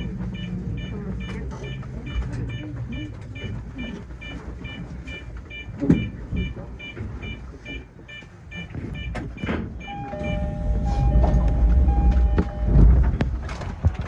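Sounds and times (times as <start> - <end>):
electronic warning chime beeps: 0.0 - 12.9
train traction inverter tones: 0.0 - 13.6.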